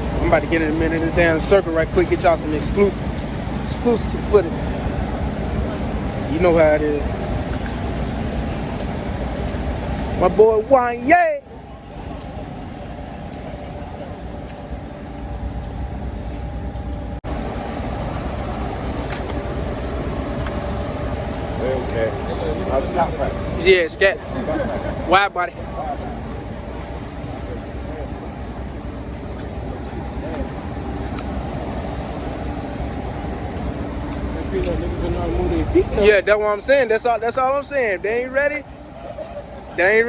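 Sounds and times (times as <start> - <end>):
car engines running: 0.0 - 40.0.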